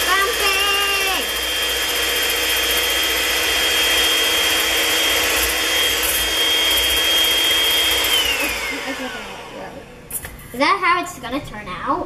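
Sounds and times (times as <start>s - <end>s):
electric hand mixer whining: 0.0s - 10.2s.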